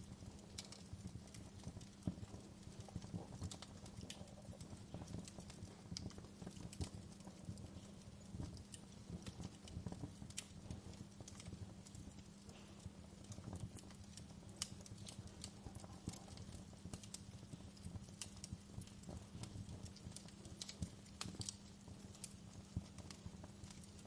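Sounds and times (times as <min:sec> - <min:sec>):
fire low rumble: 0:00.0 - 0:24.0
wood fire crackling and popping: 0:00.0 - 0:24.0.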